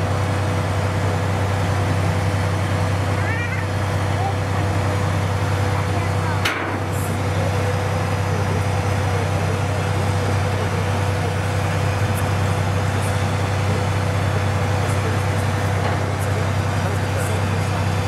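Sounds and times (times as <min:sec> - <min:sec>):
diesel engine droning: 0:00.0 - 0:18.0
thin steady whine: 0:00.0 - 0:18.0.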